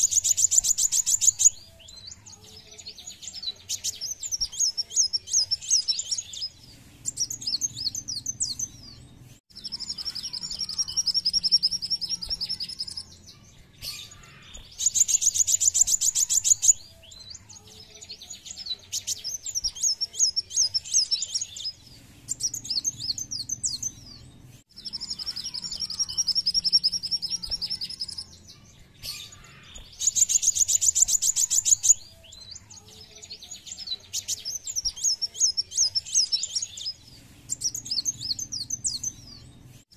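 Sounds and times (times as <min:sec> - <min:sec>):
sunbird singing rapid phrases: 0:00.0 - 0:39.8.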